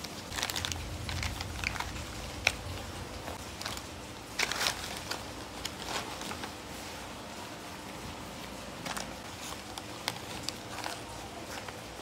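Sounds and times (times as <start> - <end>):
plastic foil sachets crinkling: 0.0 - 7.2, 8.4 - 12.0.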